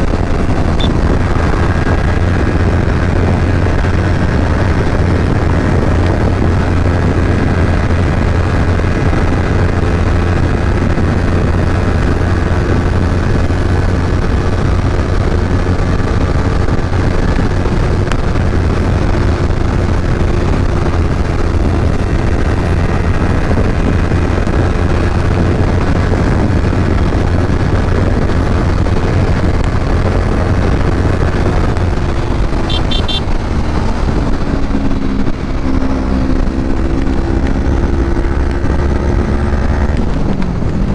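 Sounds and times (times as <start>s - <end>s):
motorcycle engine running: 0.0s - 40.9s
rushing wind: 0.0s - 40.9s.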